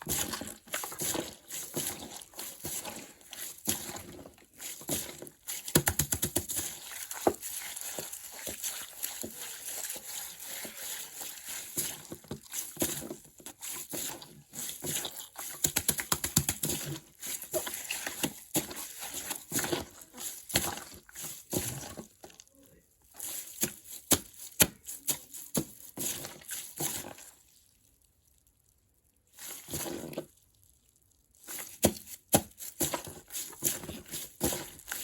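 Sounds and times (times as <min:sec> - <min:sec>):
plastic bag of water crinkling: 0:00.0 - 0:35.0.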